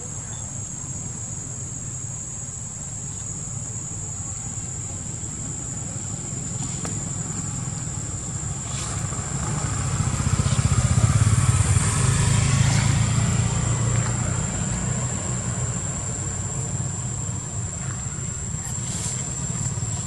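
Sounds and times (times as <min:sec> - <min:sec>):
passing vehicle engine rumble: 0:00.0 - 0:20.0.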